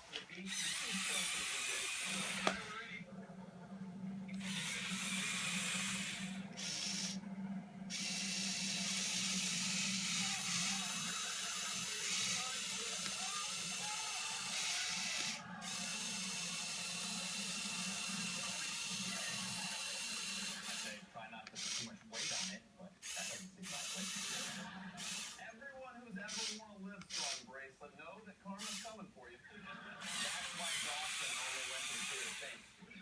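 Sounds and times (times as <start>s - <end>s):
toy electric motors whirring: 0.0s - 2.9s, 4.3s - 7.2s, 7.9s - 25.5s, 26.2s - 27.4s, 28.6s - 29.0s, 30.0s - 32.8s.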